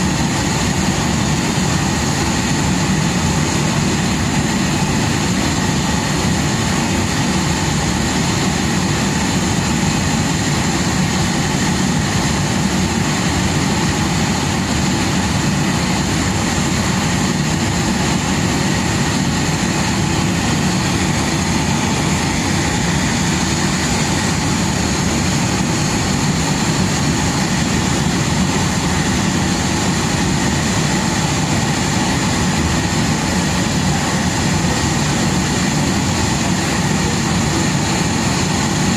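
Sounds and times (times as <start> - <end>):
aircraft engines droning: 0.0 - 38.9
thin high whine: 0.0 - 38.9.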